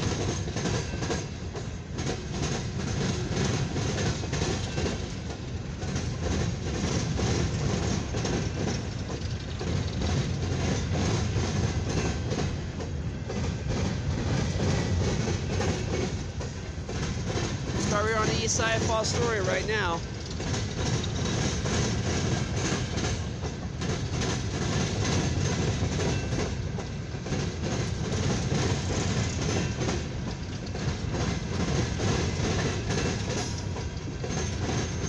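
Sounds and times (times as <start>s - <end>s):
freight train rumbling past: 0.0s - 35.0s
train wheels clacking on track: 0.0s - 35.0s.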